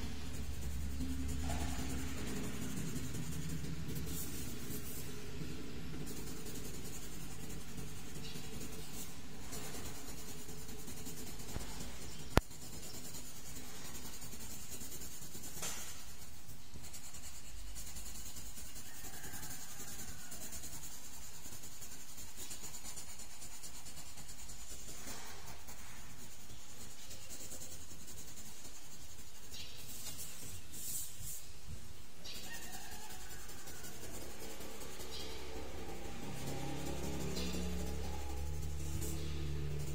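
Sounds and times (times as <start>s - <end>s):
pencil scratching on paper: 0.0s - 39.9s.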